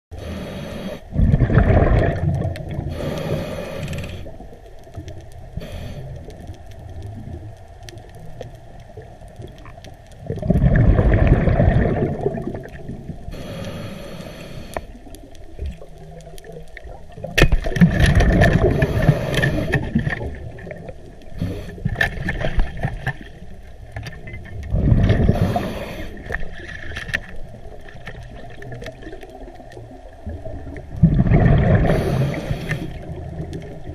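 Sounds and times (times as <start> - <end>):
quiet water noise: 0.1 - 33.9
exhaled air bubbles gurgling: 0.7 - 13.6, 14.2 - 33.9.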